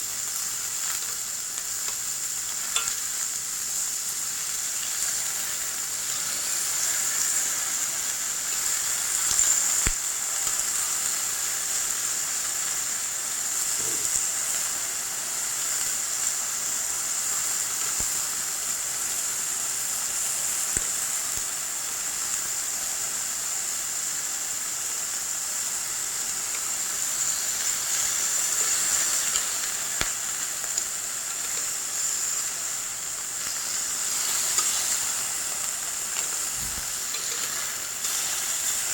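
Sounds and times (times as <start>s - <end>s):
meat sizzling on hot plate: 0.0s - 38.9s.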